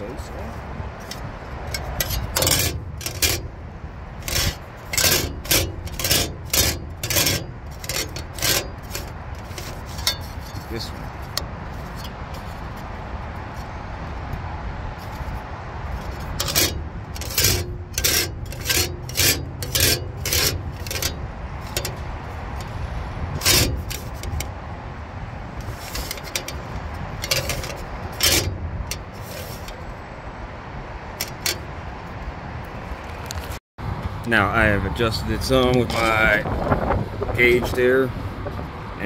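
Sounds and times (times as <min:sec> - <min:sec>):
metal scrapes and clicks: 0:00.9 - 0:14.4, 0:15.0 - 0:24.6, 0:25.5 - 0:30.1, 0:31.1 - 0:33.6, 0:35.4 - 0:36.8.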